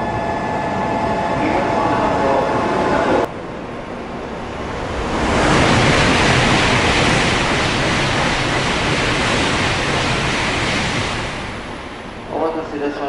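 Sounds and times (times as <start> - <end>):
high-speed train rushing past: 0.0 - 13.0.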